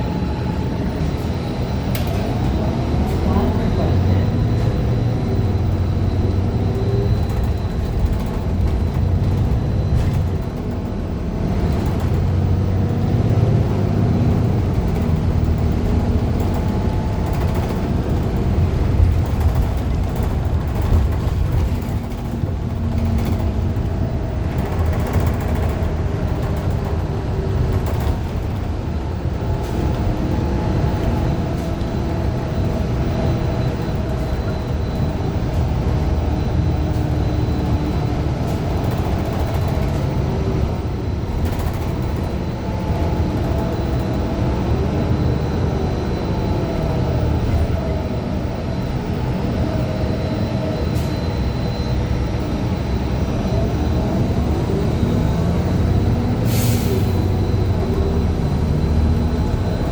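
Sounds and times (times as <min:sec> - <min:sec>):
bus engine running: 0:00.0 - 0:59.9
low road rumble: 0:00.0 - 0:59.9.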